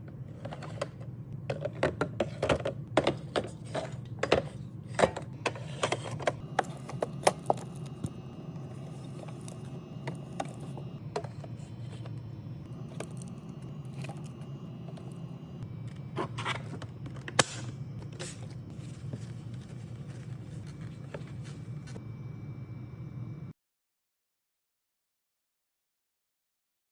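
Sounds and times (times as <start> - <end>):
fridge low hum: 0.0 - 23.5.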